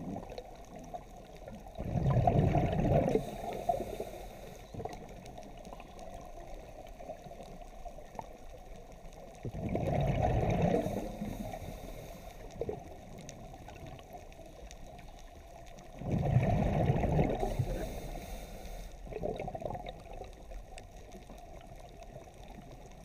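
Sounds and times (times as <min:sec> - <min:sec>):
regulator bubbles gurgling: 0:00.0 - 0:18.4, 0:19.0 - 0:23.0
low underwater rumble: 0:00.0 - 0:23.0.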